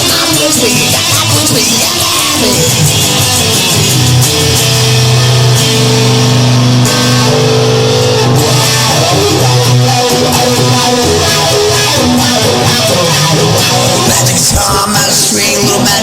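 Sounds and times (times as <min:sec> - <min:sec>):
bass guitar: 0:00.0 - 0:16.0
electric guitar chords: 0:00.0 - 0:16.0.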